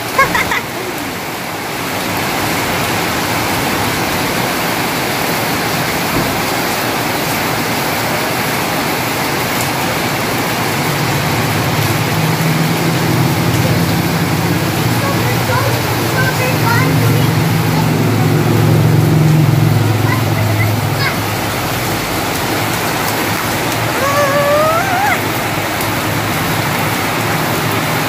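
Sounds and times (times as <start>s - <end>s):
heavy rain on concrete: 0.0s - 28.0s.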